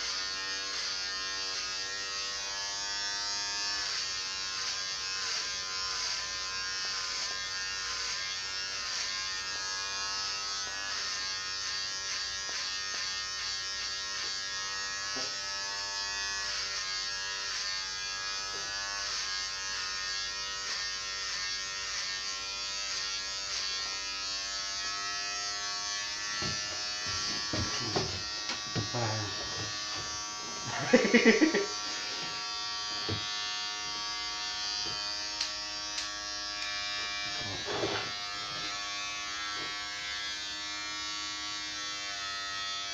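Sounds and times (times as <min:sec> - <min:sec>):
electric hair clippers buzzing: 0:00.0 - 0:42.9.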